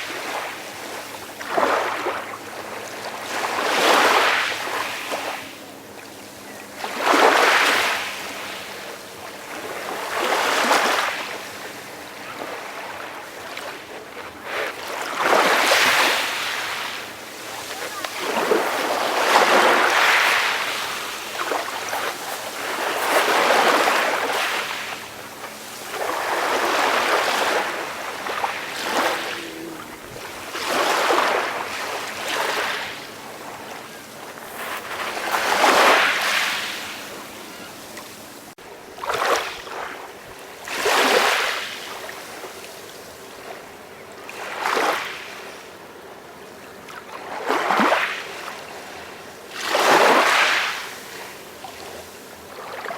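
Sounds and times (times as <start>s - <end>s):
sea waves breaking gently: 0.0s - 52.9s.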